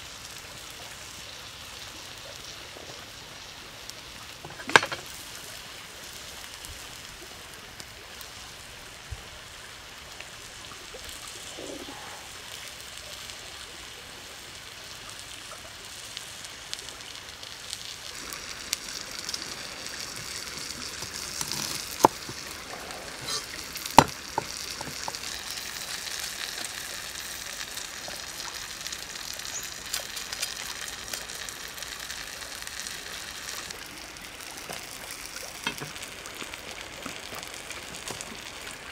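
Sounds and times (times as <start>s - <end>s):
shrimp sizzling on hot stone: 0.0s - 38.9s.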